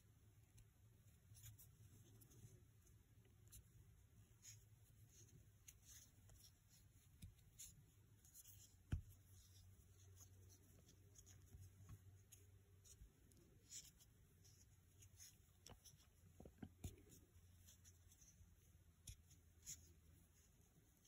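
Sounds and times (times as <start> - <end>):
crochet hook scratching yarn: 0.6 - 2.7, 4.3 - 21.0.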